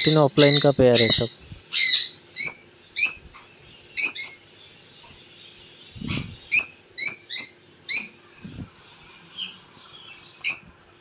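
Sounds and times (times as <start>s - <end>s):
lovebirds chirping: 0.0s - 11.0s.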